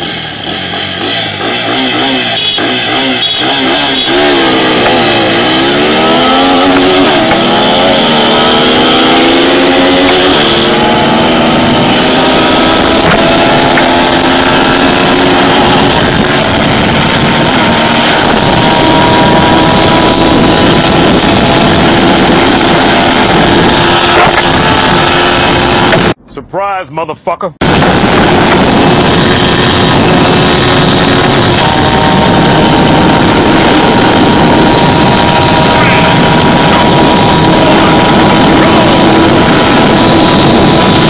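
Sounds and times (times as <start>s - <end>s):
motorcycle engine revving: 0.0s - 26.2s, 27.6s - 41.0s
wind rushing over microphone: 3.7s - 26.3s, 27.6s - 41.0s.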